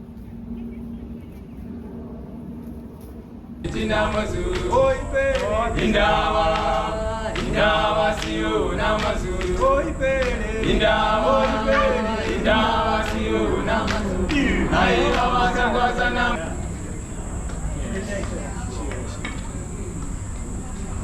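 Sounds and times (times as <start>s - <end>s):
choir singing in harmony: 3.6s - 21.0s.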